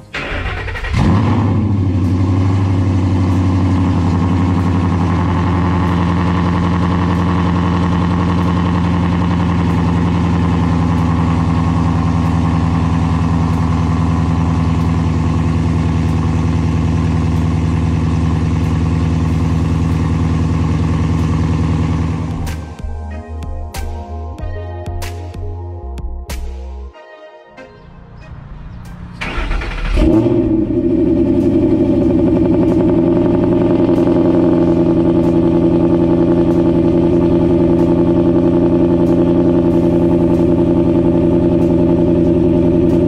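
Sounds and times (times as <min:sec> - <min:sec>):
car engine starting and idling: 0:00.0 - 0:26.9, 0:28.0 - 0:43.0.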